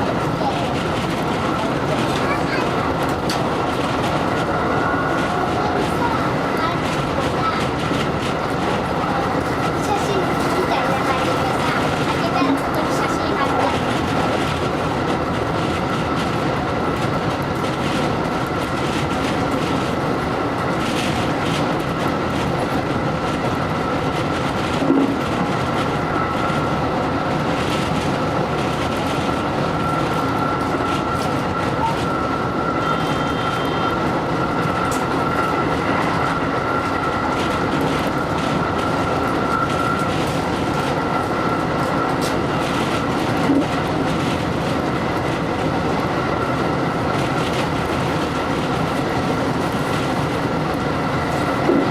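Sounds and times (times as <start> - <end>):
electric train rolling: 0.0 - 51.9.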